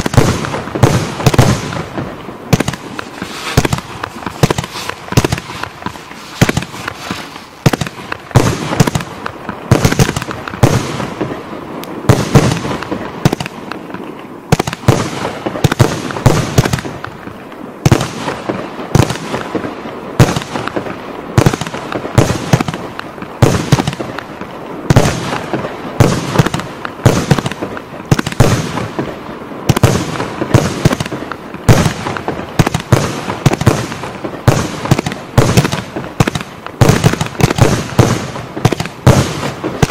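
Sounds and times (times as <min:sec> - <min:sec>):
fireworks thumps and bangs: 0:00.0 - 0:39.9.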